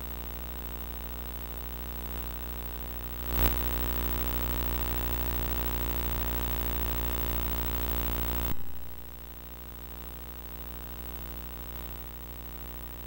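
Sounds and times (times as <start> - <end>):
electrical hum and hiss: 1.6 - 13.0.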